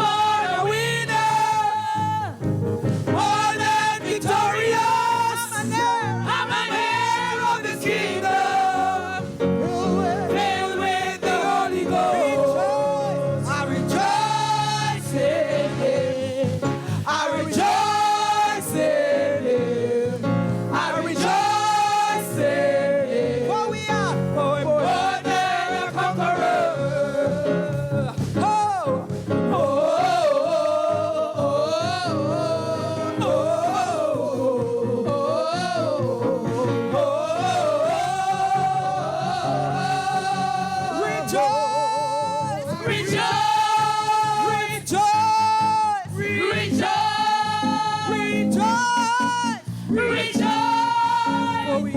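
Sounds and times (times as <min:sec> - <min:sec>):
band accompaniment: 0:00.0 - 0:35.4, 0:36.1 - 0:51.9
person singing gospel: 0:00.0 - 0:51.9.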